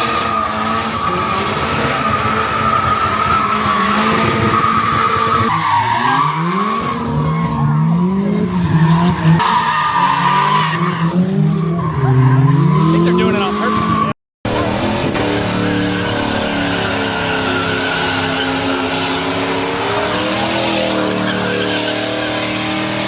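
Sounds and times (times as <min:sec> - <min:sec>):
car engine revving: 0:00.0 - 0:23.0
tires squealing: 0:00.0 - 0:23.0.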